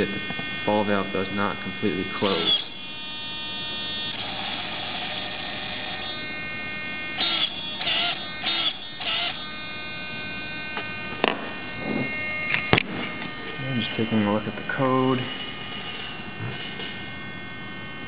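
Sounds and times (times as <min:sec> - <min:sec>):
high-pitched electrical hum: 0:00.0 - 0:18.0
servo whining: 0:00.0 - 0:18.0.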